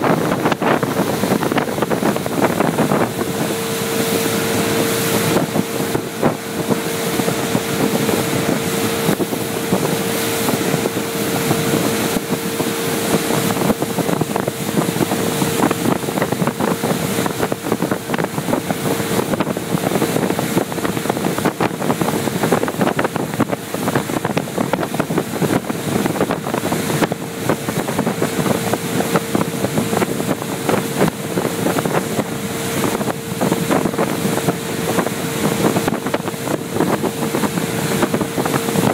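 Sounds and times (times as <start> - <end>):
motorboat engine droning: 0.0 - 38.9
water rushing past hull: 0.0 - 38.9
wind buffeting microphone: 0.0 - 38.9.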